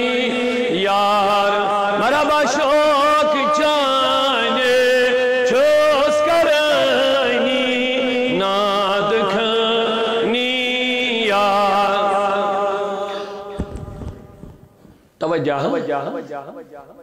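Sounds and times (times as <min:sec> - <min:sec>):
person chanting: 0:00.0 - 0:14.4.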